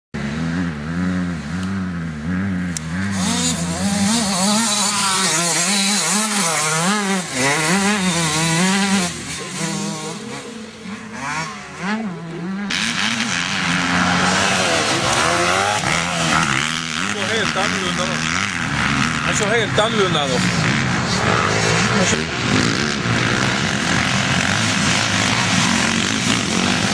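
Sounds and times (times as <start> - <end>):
motocross engines revving: 0.2 - 26.9.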